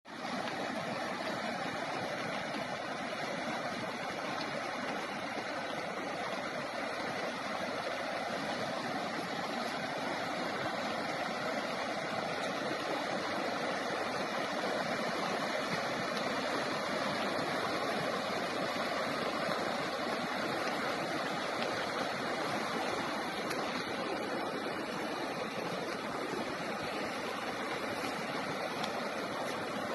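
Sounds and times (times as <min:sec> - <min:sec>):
river water rushing: 0:00.1 - 0:29.9.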